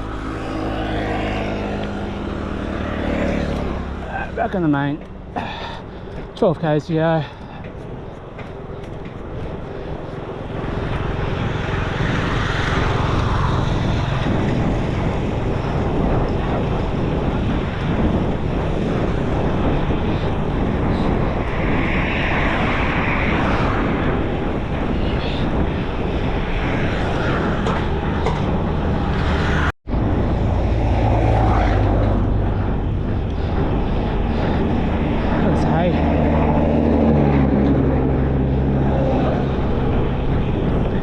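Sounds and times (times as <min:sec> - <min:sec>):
road and wind noise: 0:00.0 - 0:41.0
traffic rumble: 0:00.0 - 0:41.0.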